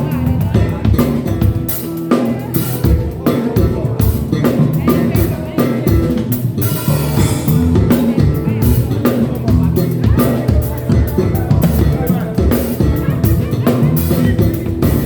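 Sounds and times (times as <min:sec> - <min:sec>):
drum kit groove: 0:00.0 - 0:15.0
held guitar and keyboard notes: 0:00.0 - 0:15.0.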